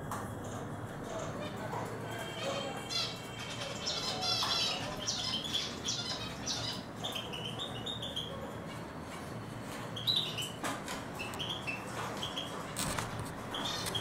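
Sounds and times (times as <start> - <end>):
small birds twittering: 1.1 - 14.0.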